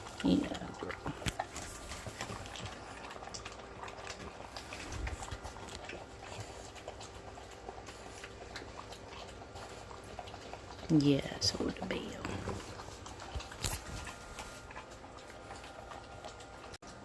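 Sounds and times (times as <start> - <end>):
dog eating wet food: 0.0 - 17.0
licking and chewing clicks: 0.0 - 17.0.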